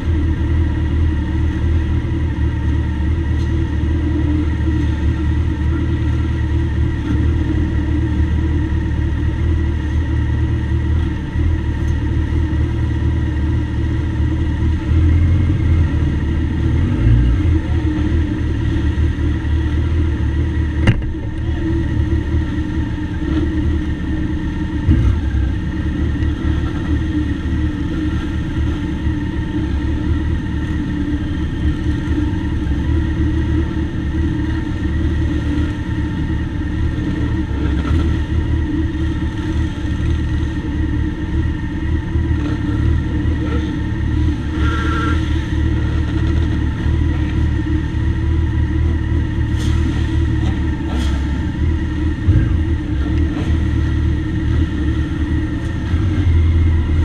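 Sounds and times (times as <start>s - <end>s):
motorcycle engines idling: 0.0s - 57.0s.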